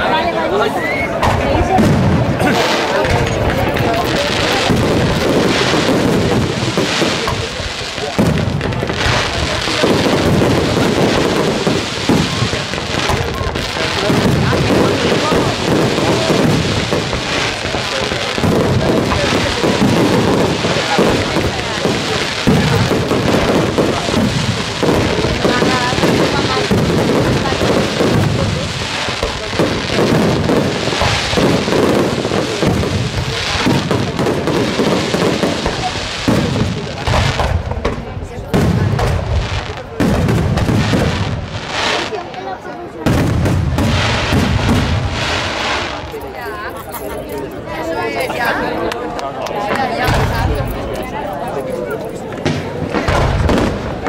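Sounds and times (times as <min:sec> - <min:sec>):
sharp firework reports: 0:00.0 - 0:48.8, 0:49.6 - 0:54.0
fireworks crackling: 0:00.0 - 0:54.0.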